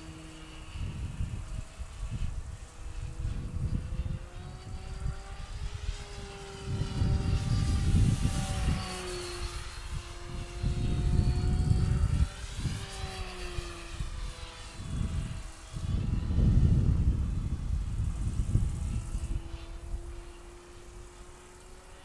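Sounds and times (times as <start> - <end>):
model plane motor whine: 0.0 - 22.0
wind rumble on microphone: 0.0 - 22.0.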